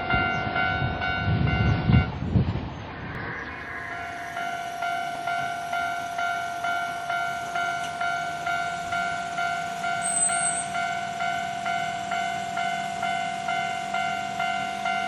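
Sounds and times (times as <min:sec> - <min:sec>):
steady alarm tone: 0:02.8 - 0:15.0.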